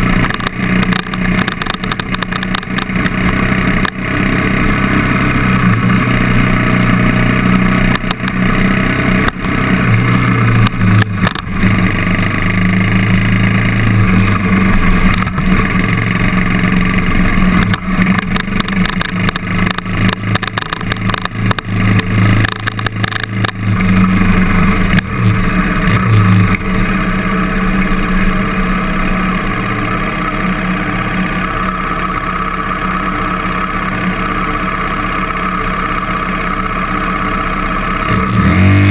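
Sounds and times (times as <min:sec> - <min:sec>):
trail bike engine revving: 0:00.0 - 0:38.9.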